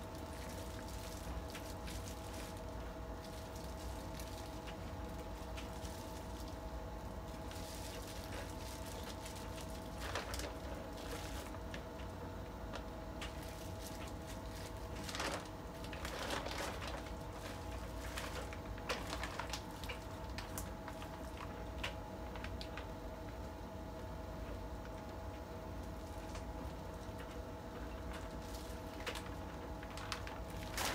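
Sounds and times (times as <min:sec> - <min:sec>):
plastic bag crinkling: 0:00.0 - 0:23.4, 0:24.8 - 0:30.9
steady low hum: 0:00.0 - 0:30.9.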